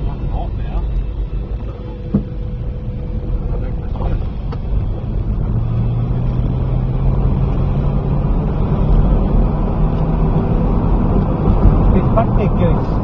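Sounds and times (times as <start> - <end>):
car engine noise: 0.0 - 13.0
road noise: 0.0 - 13.0.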